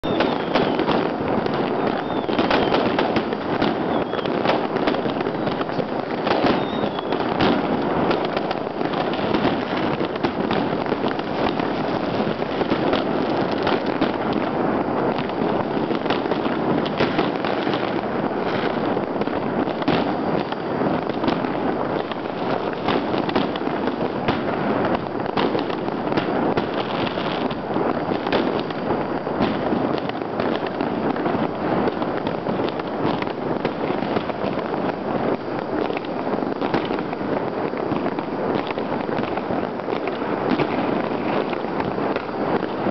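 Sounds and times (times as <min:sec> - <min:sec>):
firecracker bangs: 0:00.0 - 0:42.9
fireworks crackling: 0:00.0 - 0:42.9.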